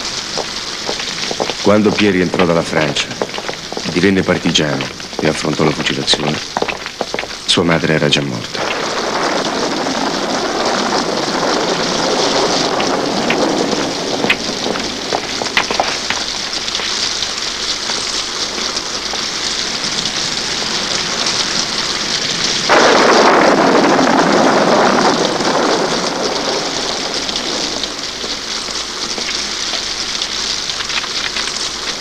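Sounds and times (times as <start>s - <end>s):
heavy rain: 0.0s - 32.0s
rushing surge of rain: 0.0s - 32.0s.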